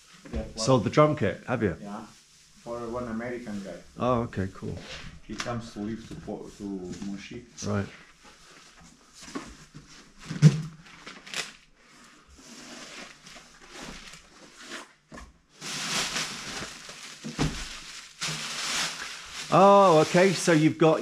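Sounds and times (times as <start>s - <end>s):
rustling and crinkling handling: 1.8s - 21.0s.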